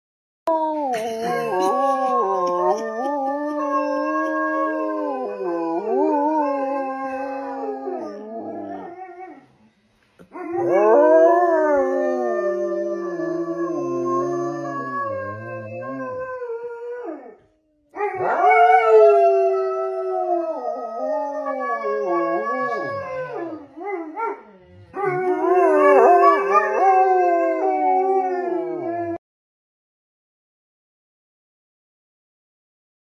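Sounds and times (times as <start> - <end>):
dog howling: 0.5 - 9.4, 10.3 - 17.4, 18.0 - 29.2.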